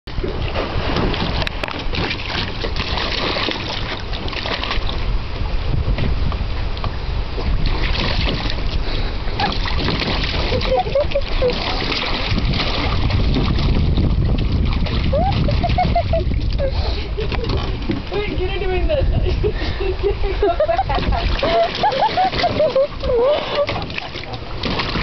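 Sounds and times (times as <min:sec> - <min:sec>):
water splashing in pool: 0:00.1 - 0:05.2, 0:07.4 - 0:18.8, 0:20.0 - 0:25.0
wind on microphone: 0:00.1 - 0:25.0.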